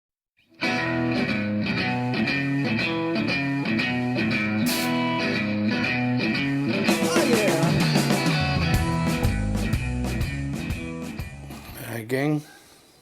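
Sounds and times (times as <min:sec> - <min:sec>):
guitar-led rock music: 0:00.6 - 0:11.7.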